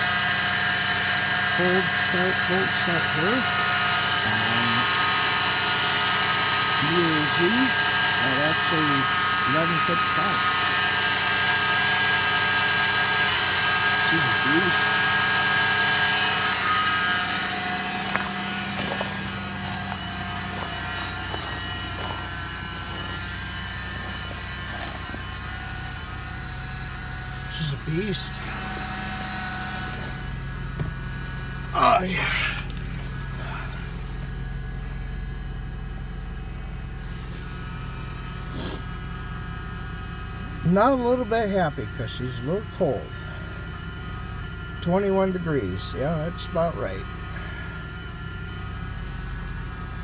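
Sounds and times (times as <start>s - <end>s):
old vehicle engine idling: 0.0s - 50.0s.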